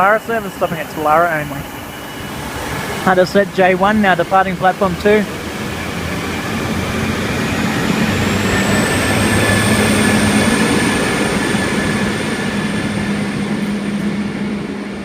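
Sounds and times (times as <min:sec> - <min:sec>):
diesel railcar engine whining: 0:00.0 - 0:15.0.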